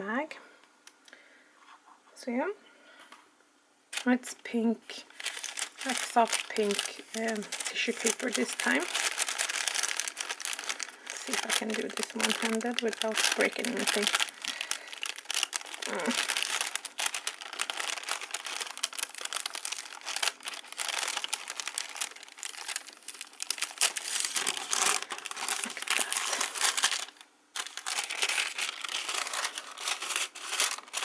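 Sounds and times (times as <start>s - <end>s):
tissue paper crinkling: 5.1s - 31.0s.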